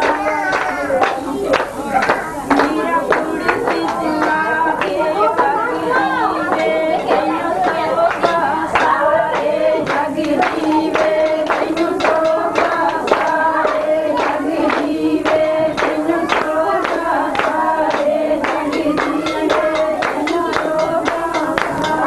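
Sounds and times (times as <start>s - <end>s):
group singing: 0.0s - 22.0s
rhythmic hand clapping: 0.0s - 22.0s.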